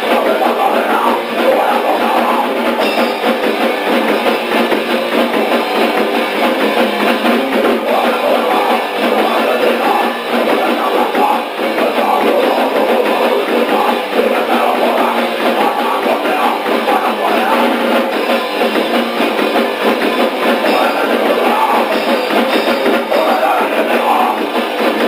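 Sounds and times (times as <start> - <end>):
distorted guitar: 0.0 - 25.0
fast pounding drum kit: 0.0 - 25.0.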